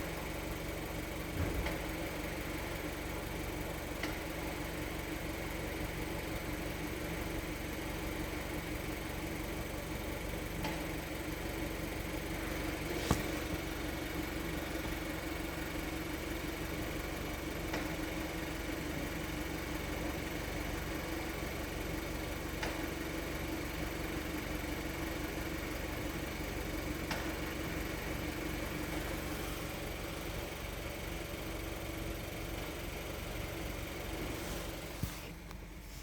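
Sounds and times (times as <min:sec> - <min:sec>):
car engine idling: 0:00.0 - 0:36.0
whirring hum from clutch: 0:00.0 - 0:36.0.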